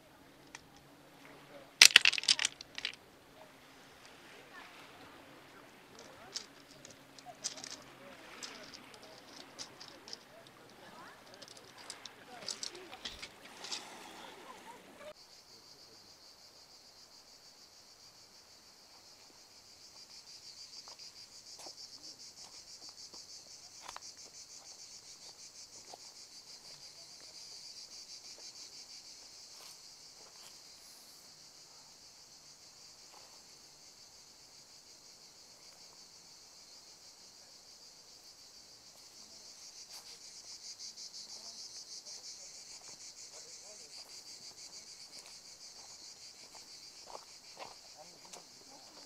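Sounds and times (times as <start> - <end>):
insects trilling: 1.5 - 49.0.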